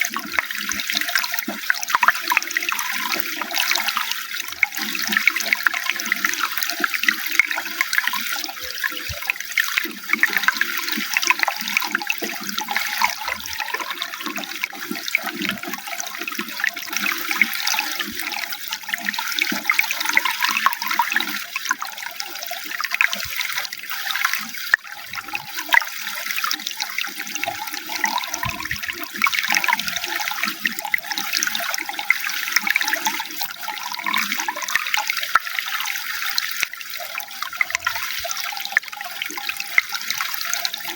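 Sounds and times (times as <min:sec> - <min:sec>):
running water splashing and trickling: 0:00.0 - 0:40.9.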